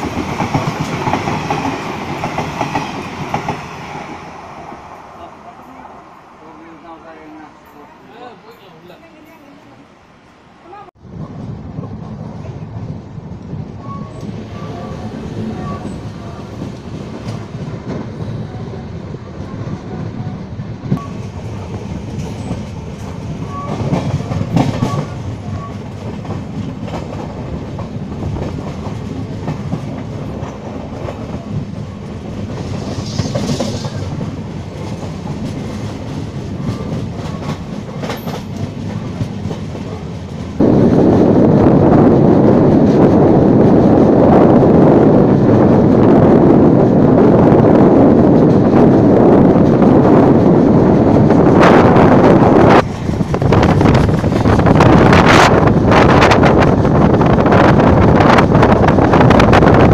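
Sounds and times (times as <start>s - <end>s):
clickety-clack of rail joints: 0.0s - 5.0s, 11.2s - 44.2s, 48.0s - 59.9s
train wheels rumbling on rails: 0.0s - 7.3s, 11.0s - 59.9s
wind buffeting microphone: 11.0s - 59.9s.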